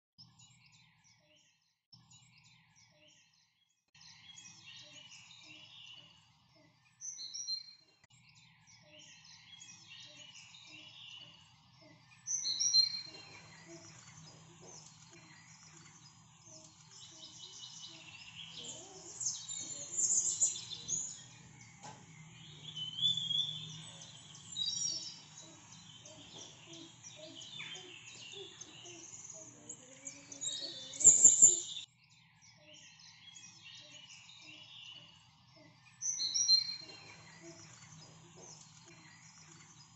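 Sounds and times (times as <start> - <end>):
birds chirping and calling: 4.0 - 39.9.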